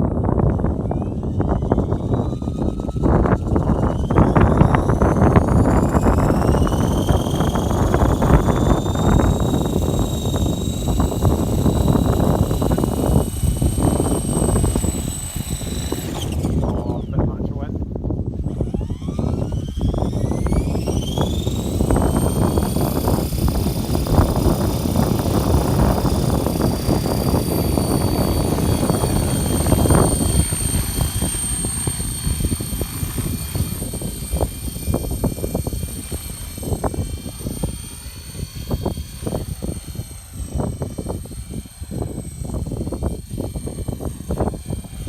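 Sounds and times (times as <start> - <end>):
model helicopter rotor whine: 0.0 - 45.0
wind buffeting microphone: 0.0 - 45.0.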